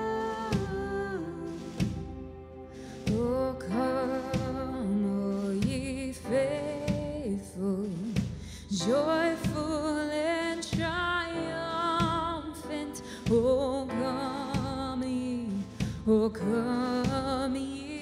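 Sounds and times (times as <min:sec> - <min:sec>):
woman singing with vibrato: 0:00.0 - 0:02.1, 0:03.0 - 0:18.0.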